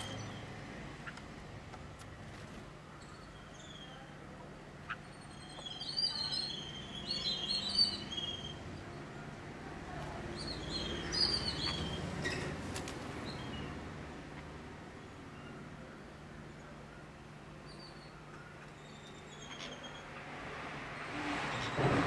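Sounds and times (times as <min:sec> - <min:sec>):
birds chirping: 0:00.0 - 0:20.4.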